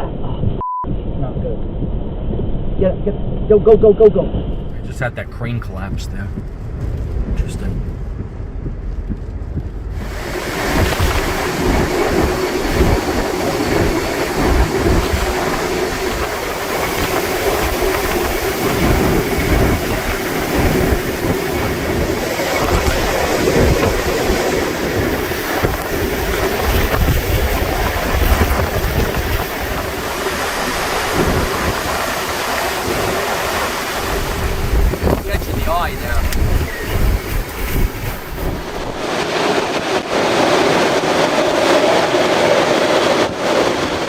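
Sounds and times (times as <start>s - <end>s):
gusts buffeting microphone: 0.0s - 44.0s
low rumble: 0.0s - 44.0s
wind and rain roaring: 0.0s - 44.0s.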